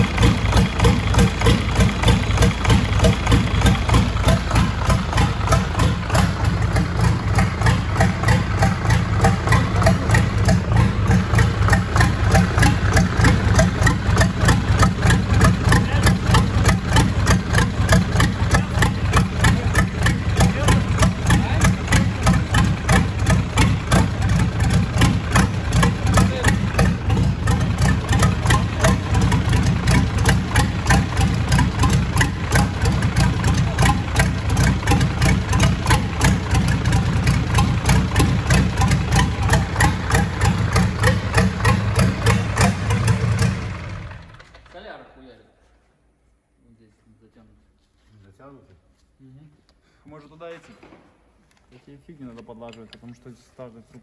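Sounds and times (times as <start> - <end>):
diesel engine running steadily: 0.0 - 44.6.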